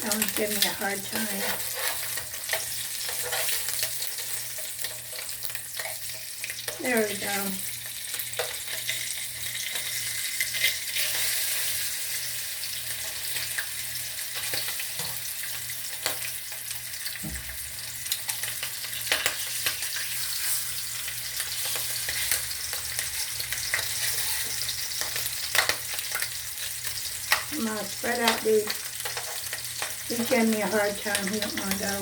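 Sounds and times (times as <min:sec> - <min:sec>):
hot dogs sizzling in deep fryer: 0:00.0 - 0:32.0.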